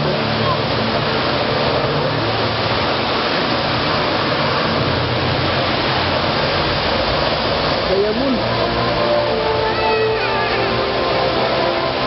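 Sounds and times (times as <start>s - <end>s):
fountain water pouring: 0.0s - 12.0s.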